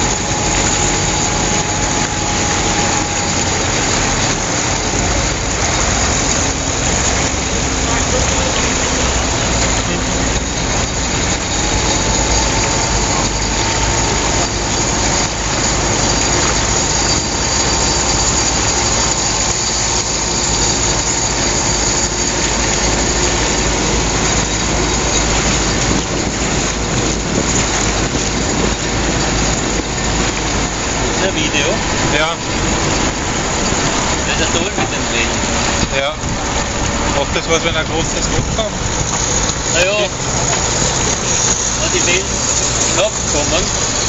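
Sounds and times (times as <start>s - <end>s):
car engine running: 0.0s - 44.0s
water rushing: 0.0s - 44.0s.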